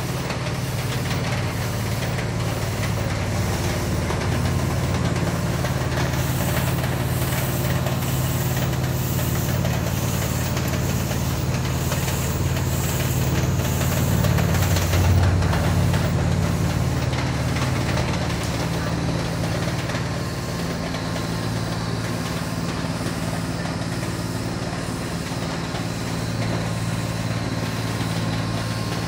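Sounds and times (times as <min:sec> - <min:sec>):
machine hum of motors and fans: 0:00.0 - 0:29.0.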